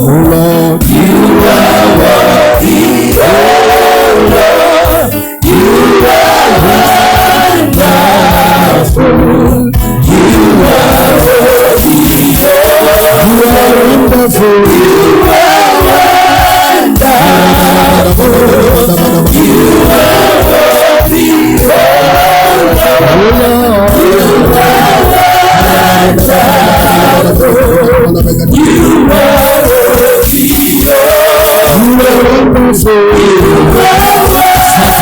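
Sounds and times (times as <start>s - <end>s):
choir singing: 0.0s - 32.6s, 33.2s - 35.0s
instrumental accompaniment: 0.0s - 35.0s.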